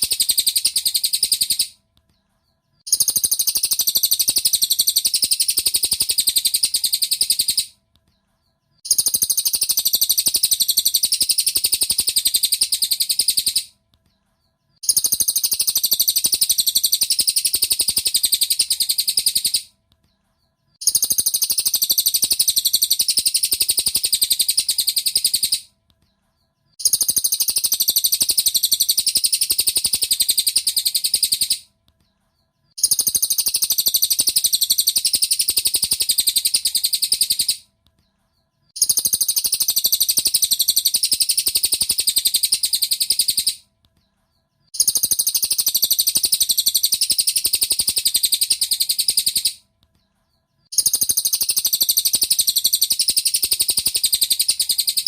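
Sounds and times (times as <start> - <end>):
rapid high bird chirping: 0.0 - 55.0.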